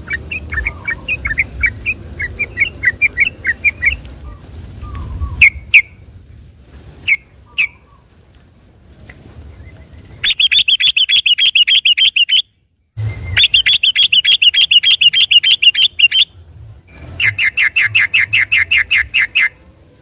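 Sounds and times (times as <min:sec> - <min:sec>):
bird singing rattling song: 0:00.0 - 0:06.0, 0:07.0 - 0:08.0, 0:09.4 - 0:19.7.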